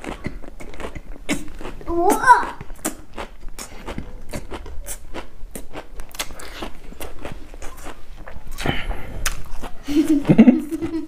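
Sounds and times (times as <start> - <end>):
chewing and crunching greens: 0.0 - 11.0.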